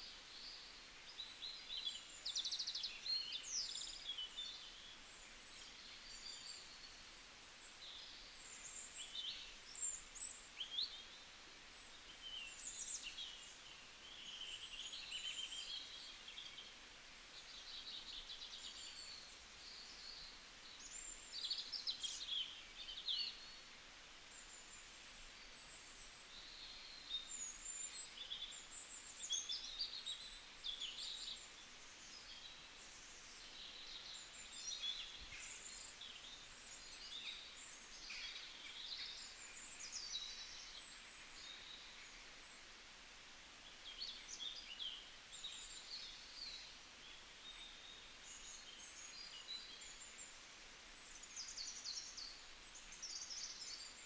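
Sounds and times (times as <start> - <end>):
small birds chirping: 0.0 - 42.8, 43.4 - 54.0
faint steady hiss: 0.0 - 54.0.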